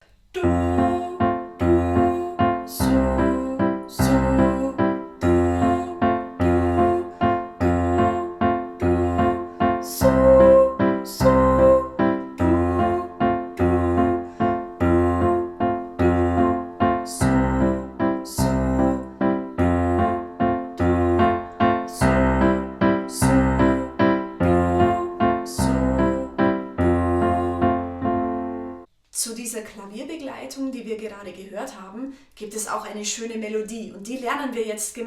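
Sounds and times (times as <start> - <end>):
piano chords: 0.4 - 28.9.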